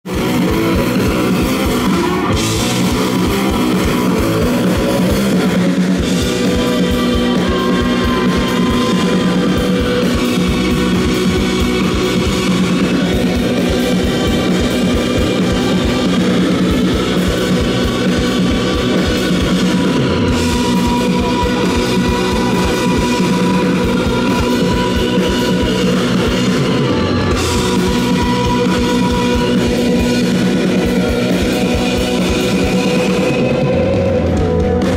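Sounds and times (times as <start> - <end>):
drum kit: 0.0 - 34.9
electric guitars: 0.0 - 34.9.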